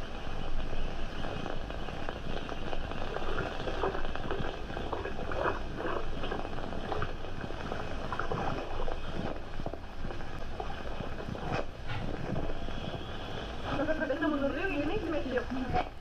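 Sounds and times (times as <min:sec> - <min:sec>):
film soundtrack hiss and crackle: 0:00.0 - 0:16.0.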